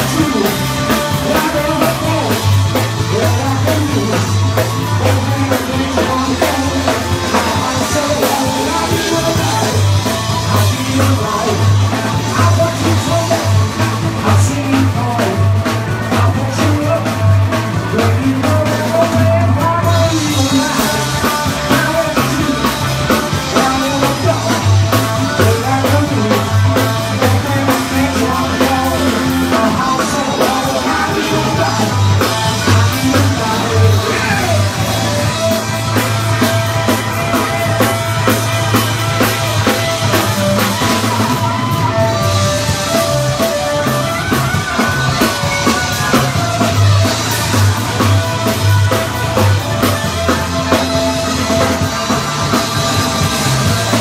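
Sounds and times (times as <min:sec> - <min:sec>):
bass notes: 0:00.0 - 0:54.0
drum kit: 0:00.0 - 0:54.0
punk rock band playing: 0:00.0 - 0:54.0.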